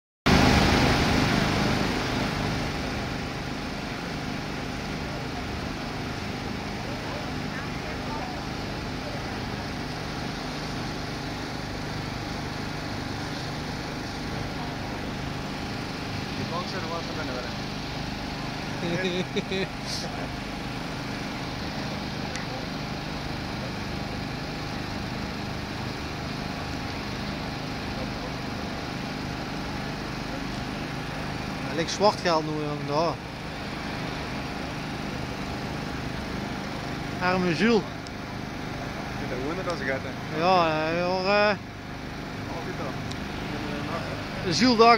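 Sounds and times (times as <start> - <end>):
pump engine running: 0.3 - 44.9.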